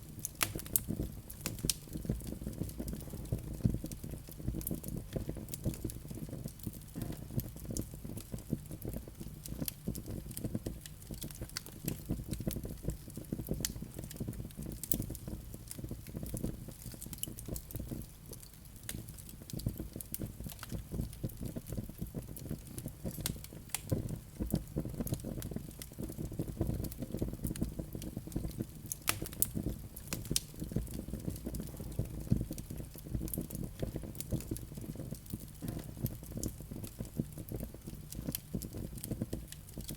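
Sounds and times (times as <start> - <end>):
fireplace fire crackling and popping: 0.0 - 39.9.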